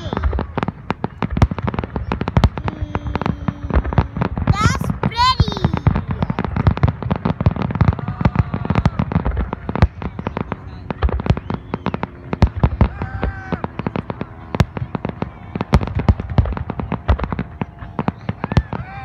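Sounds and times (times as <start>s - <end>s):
fireworks bursts and crackle: 0.0s - 19.0s.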